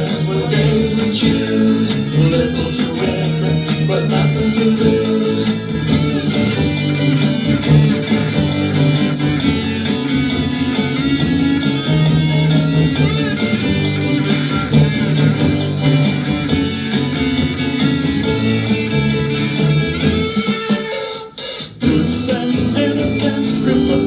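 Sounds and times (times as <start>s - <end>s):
psychedelic pop band instrumental: 0.0s - 24.0s.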